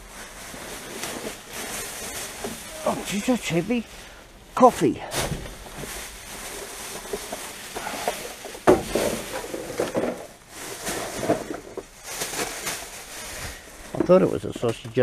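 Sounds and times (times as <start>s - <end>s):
plastic bags rustling: 0.0s - 14.8s.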